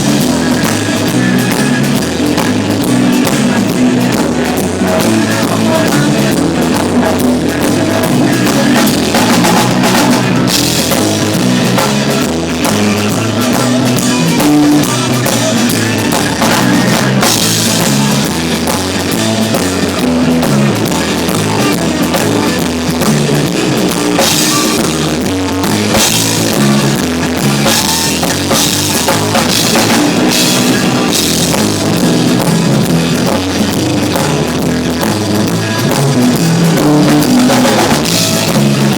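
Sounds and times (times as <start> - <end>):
drum kit and cymbals: 0.0 - 38.9
electric guitar: 0.0 - 38.9
live rock band: 0.0 - 38.9.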